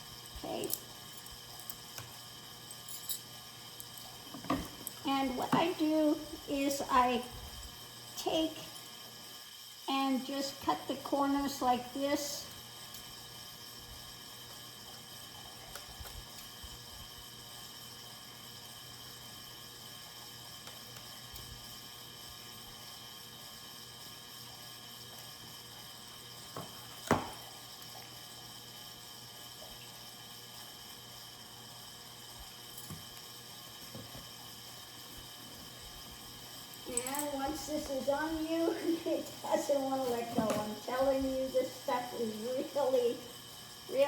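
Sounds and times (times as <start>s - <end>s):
fan hiss and hum: 0.0s - 44.0s.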